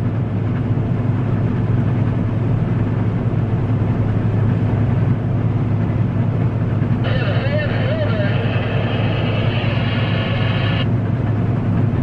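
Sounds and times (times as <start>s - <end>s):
combine harvester droning: 0.0s - 12.0s.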